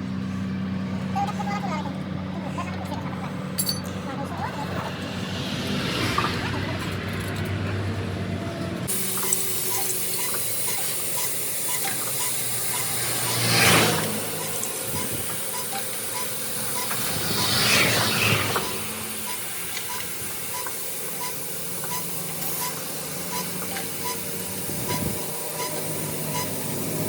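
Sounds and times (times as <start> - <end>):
low engine hum: 0.0 - 9.8, 11.8 - 27.0
vehicles passing on highway: 0.0 - 27.0.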